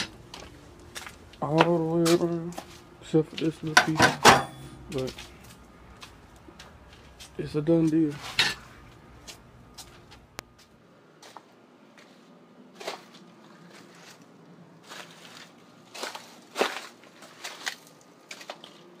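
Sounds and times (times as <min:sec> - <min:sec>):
crunching footsteps: 0:00.0 - 0:04.0, 0:04.8 - 0:19.0.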